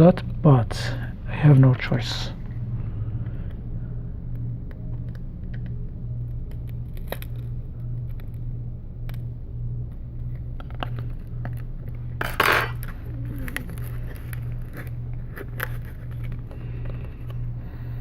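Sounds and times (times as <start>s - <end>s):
low pulsing hum: 0.0s - 18.0s.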